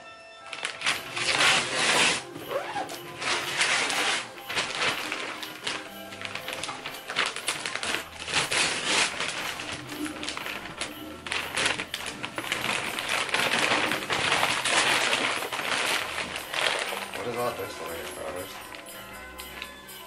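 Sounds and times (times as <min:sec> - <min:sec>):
wrapping paper tearing: 0:00.5 - 0:19.0
paper crumpling: 0:00.5 - 0:19.8.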